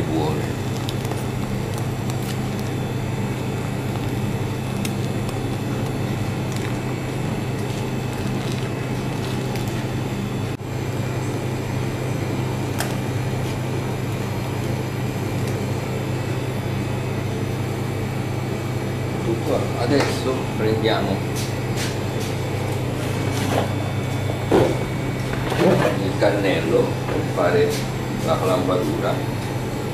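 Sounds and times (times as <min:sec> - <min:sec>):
mechanical hum with low drone: 0:00.0 - 0:29.9.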